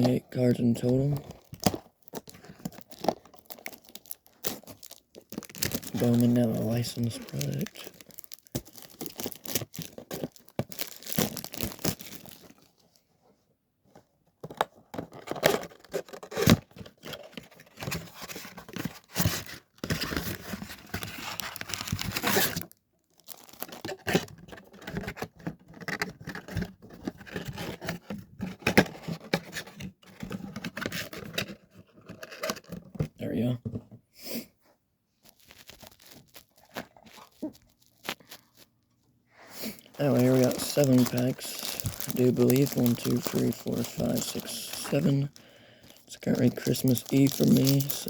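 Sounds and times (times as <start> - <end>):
cardboard and wrapping tearing: 1.1 - 12.7, 15.0 - 32.9, 35.2 - 38.7, 39.6 - 48.0.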